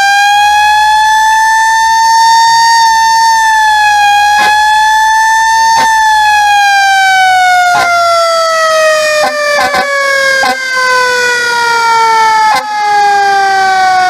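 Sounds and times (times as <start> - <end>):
fire truck siren wailing: 0.0 - 14.0.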